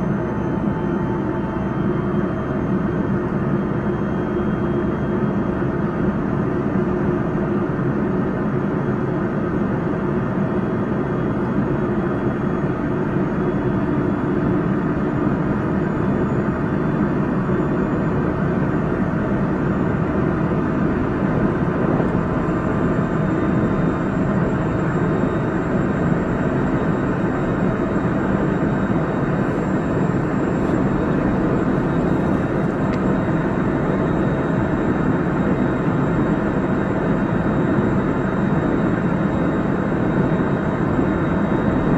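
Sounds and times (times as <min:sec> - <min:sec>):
high inverter whine: 0:00.0 - 0:41.9.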